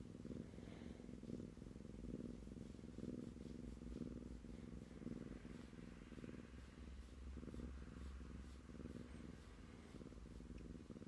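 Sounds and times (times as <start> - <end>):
kitten purring: 0.0 - 11.0.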